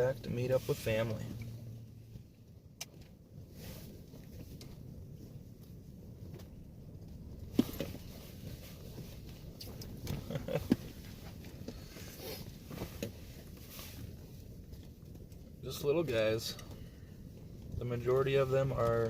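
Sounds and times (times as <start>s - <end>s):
steady low rumble: 0.0s - 19.0s
small knocks and rustles: 0.3s - 15.6s.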